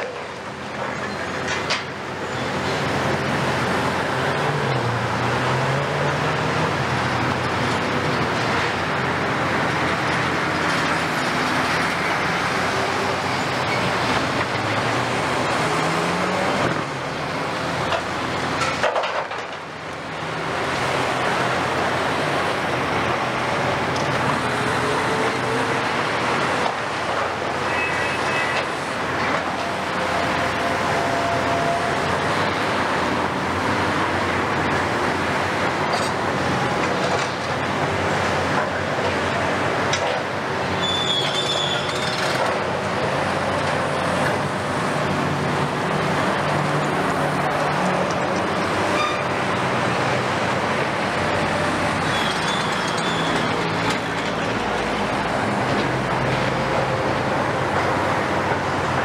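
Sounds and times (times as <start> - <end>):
excavator diesel engines: 0.0 - 59.0
road traffic: 0.0 - 59.0.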